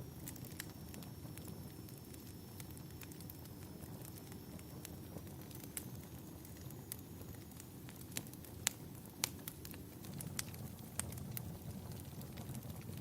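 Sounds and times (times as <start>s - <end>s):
low steady fire rumble: 0.0s - 13.0s
wood fire crackling and popping: 0.0s - 13.0s.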